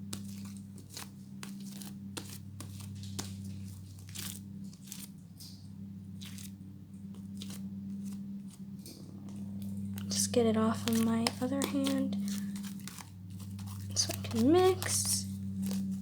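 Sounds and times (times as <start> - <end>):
steady low hum: 0.0 - 16.0
slime crackling and tearing: 0.1 - 5.1, 7.2 - 16.0.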